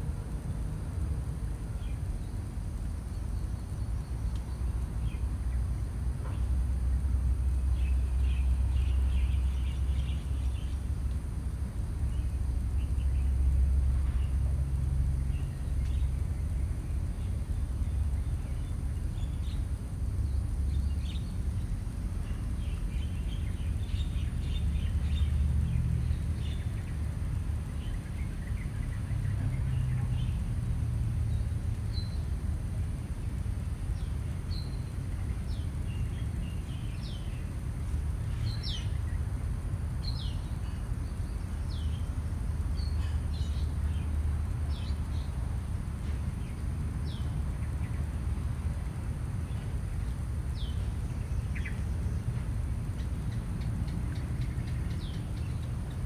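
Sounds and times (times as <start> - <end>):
low background rumble: 0.0 - 56.0
small birds chirping: 0.9 - 56.0.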